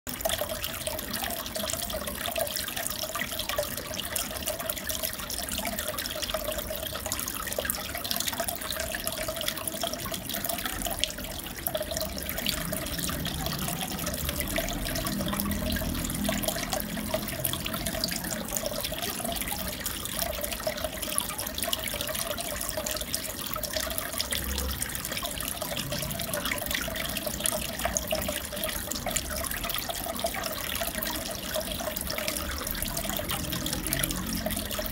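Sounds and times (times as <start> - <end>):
aquarium water trickling and bubbling: 0.1 - 34.9.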